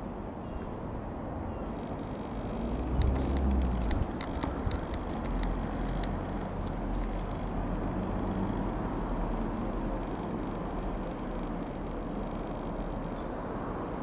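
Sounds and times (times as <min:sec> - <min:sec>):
distant light aircraft engine drone: 0:00.0 - 0:14.0.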